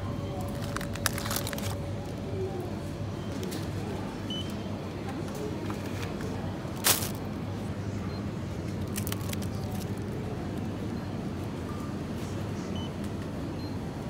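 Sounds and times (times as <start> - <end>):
refrigerator hum: 0.0 - 14.0.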